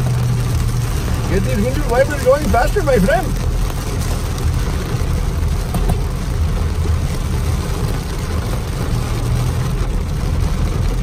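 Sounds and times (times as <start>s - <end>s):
heavy rain drumming on car roof: 0.0s - 11.0s
low rumble of moving car: 0.0s - 11.0s.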